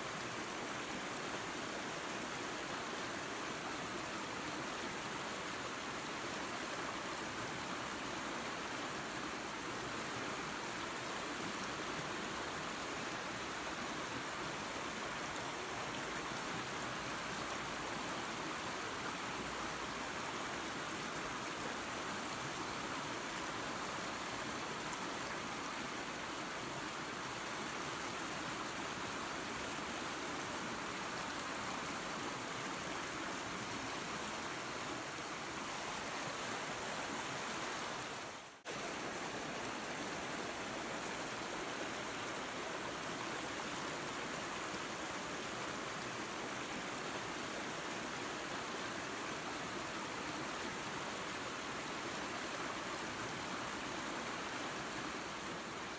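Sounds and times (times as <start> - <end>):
waterfall and creek rushing: 0.0 - 55.9.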